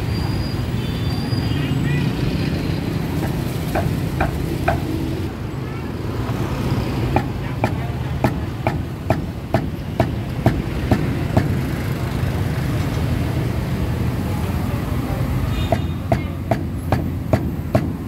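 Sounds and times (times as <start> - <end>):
low traffic rumble: 0.0 - 18.0.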